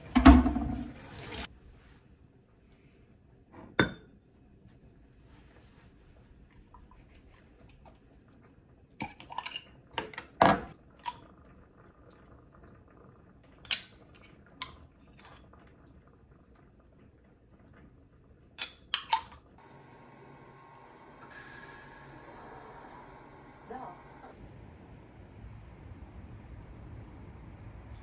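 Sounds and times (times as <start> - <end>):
faint room noise: 0.0 - 28.0.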